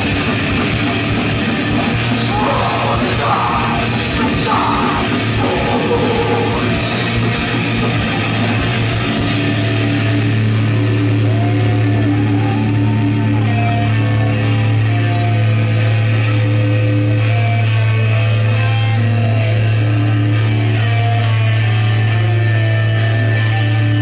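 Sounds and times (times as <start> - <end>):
distorted electric guitars: 0.0 - 24.0
heavy metal band playing live: 0.0 - 24.0.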